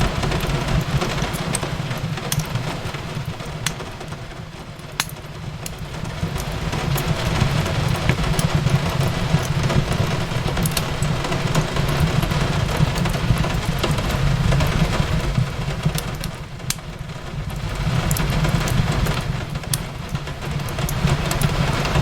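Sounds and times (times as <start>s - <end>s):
rain on a window: 0.0s - 22.0s
wood fire crackling: 0.0s - 22.0s.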